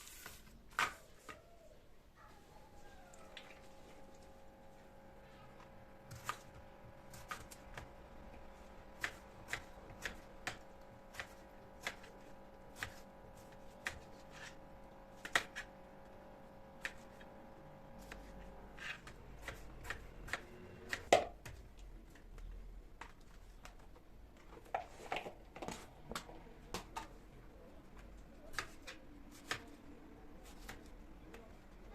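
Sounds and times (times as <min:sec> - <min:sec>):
appliance hum: 0:02.2 - 0:31.9.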